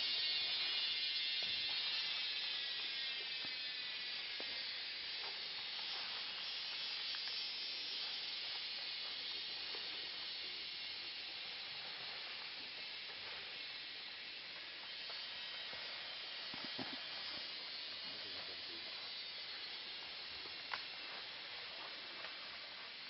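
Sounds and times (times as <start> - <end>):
insect chorus hiss: 0.0 - 23.0.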